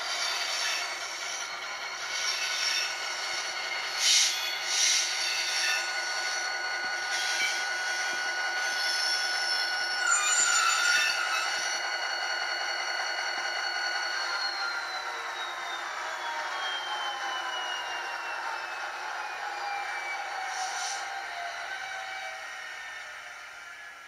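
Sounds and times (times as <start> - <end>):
model diesel engine sound: 0.0 - 21.2
wavering rail squeal: 0.0 - 24.0.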